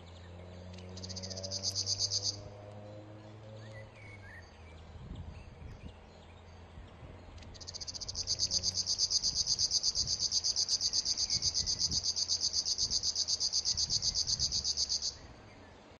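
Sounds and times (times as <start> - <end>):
bird singing pulsed buzz: 0.0 - 15.9.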